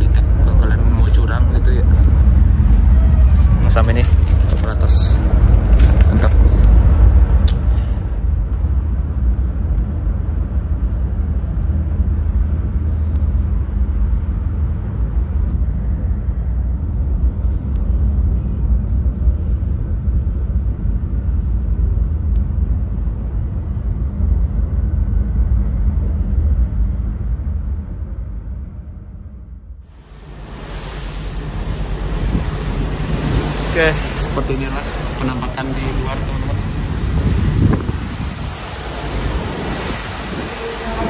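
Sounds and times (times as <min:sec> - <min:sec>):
ship engines droning: 0:00.0 - 0:41.0.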